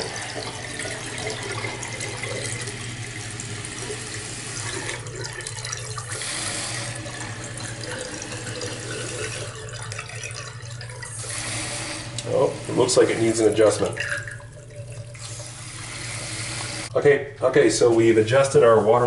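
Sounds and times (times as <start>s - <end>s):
water hissing into toilet tank: 0.0s - 16.9s.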